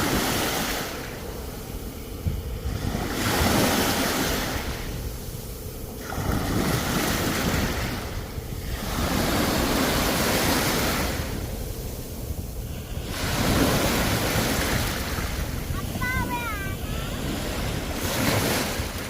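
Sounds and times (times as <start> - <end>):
sea waves breaking on shore: 0.0 - 19.0.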